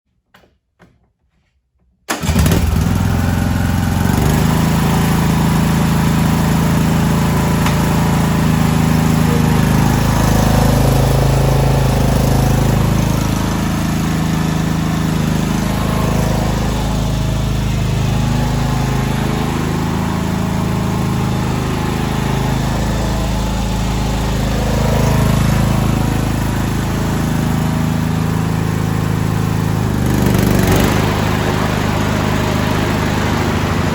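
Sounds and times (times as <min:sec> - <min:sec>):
lawn tractor engine running: 0:02.1 - 0:33.9.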